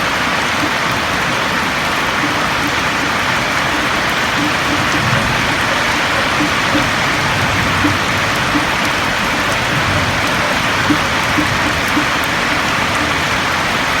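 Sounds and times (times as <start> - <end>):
rain on a roof: 0.0 - 14.0.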